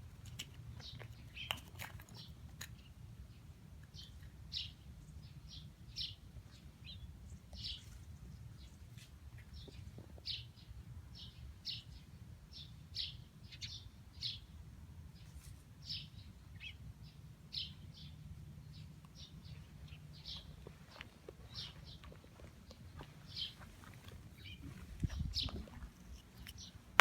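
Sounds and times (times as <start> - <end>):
small birds chirping: 0.2 - 14.5, 15.1 - 27.0.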